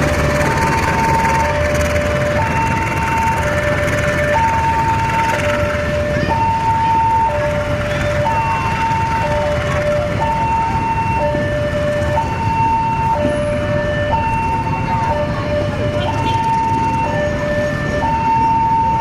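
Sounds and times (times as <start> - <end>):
freight train rumble: 0.0 - 19.0
two-tone level crossing alarm: 0.0 - 19.0.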